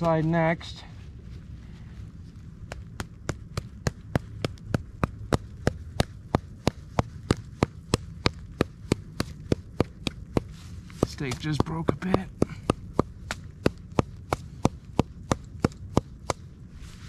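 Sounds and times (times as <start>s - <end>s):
hammer striking tent stake: 2.7s - 16.5s.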